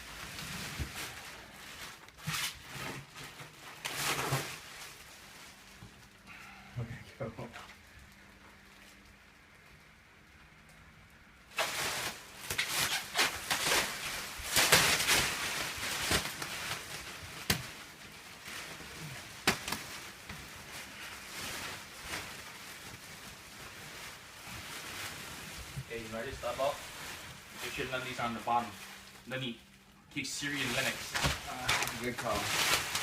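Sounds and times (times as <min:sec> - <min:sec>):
plastic wrapping tearing: 0:00.0 - 0:06.2, 0:11.5 - 0:33.0
plastic rustling: 0:00.0 - 0:33.0.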